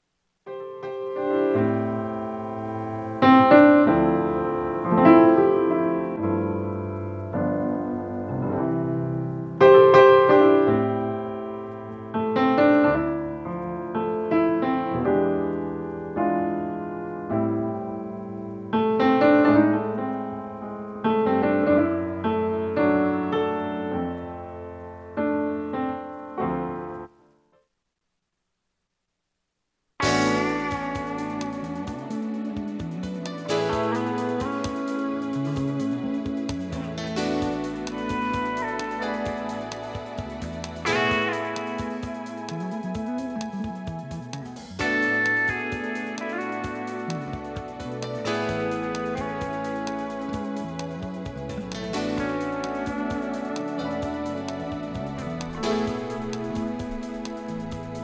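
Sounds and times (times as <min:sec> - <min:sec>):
solo piano music: 0:00.4 - 0:27.4, 0:30.0 - 0:58.0.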